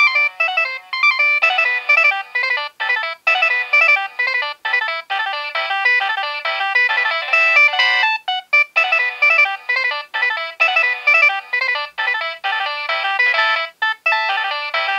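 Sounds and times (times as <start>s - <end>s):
polyphonic phone ringtone: 0.0s - 14.9s.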